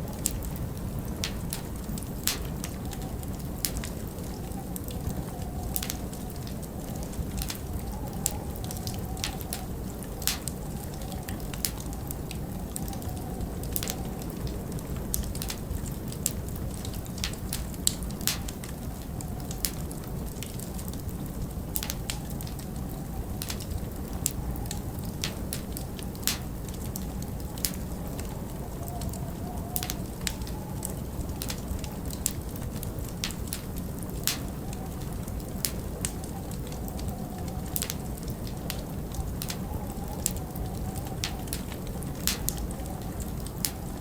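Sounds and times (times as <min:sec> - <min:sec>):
storm wind rumbling: 0:00.0 - 0:44.0
wind whistling: 0:00.0 - 0:44.0
wood fire crackling: 0:00.0 - 0:44.0.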